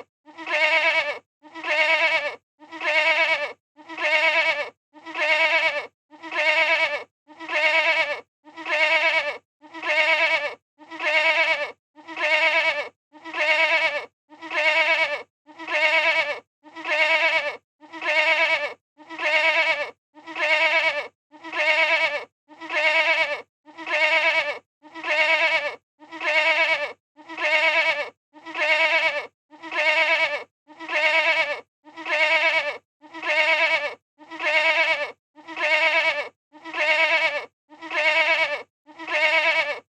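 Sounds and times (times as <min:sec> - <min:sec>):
goat bleating: 0:00.0 - 0:39.9.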